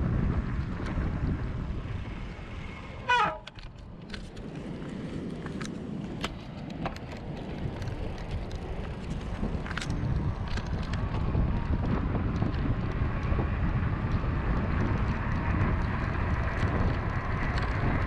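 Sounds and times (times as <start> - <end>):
low road rumble: 0.0 - 18.0
wind buffeting microphone: 0.0 - 18.0
light clicks and ticks: 3.4 - 18.0.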